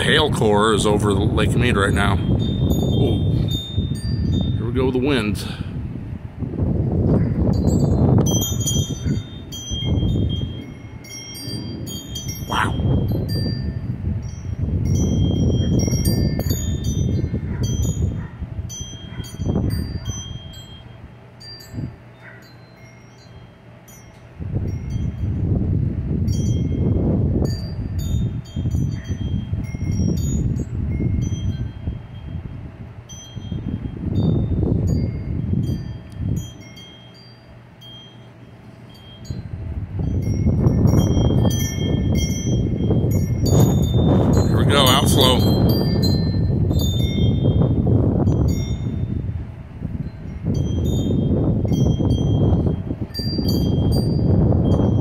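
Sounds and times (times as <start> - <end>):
wind chimes jingling: 0.0 - 5.6, 7.4 - 25.6, 26.3 - 55.0
wind buffeting the microphone: 0.0 - 22.1, 23.9 - 55.0.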